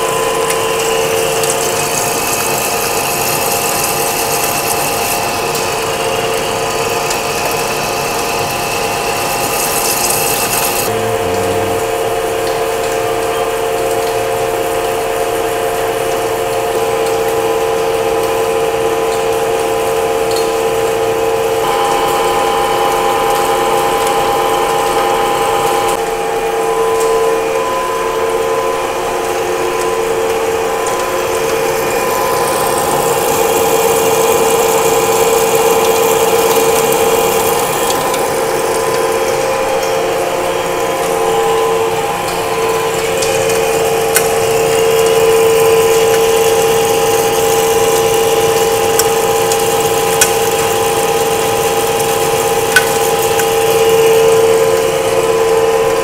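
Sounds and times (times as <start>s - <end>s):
lathe cutting steel whine: 0.0s - 14.2s, 21.6s - 56.0s.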